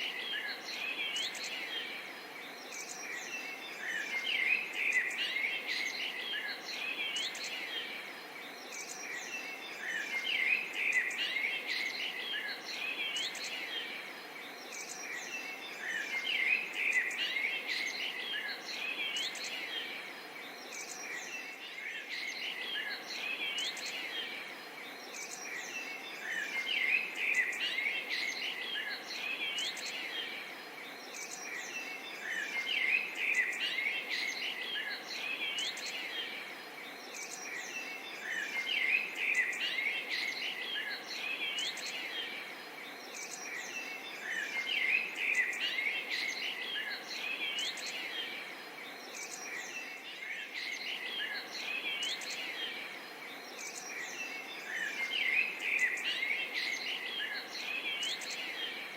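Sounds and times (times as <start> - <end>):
birds chirping: 0.0 - 58.9
faint steady hiss: 0.0 - 58.9.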